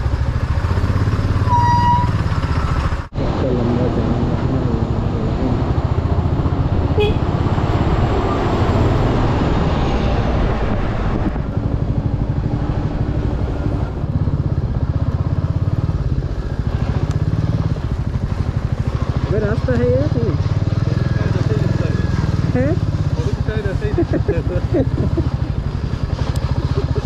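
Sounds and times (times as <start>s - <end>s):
motorcycle engine running: 0.0s - 8.1s, 11.3s - 27.0s.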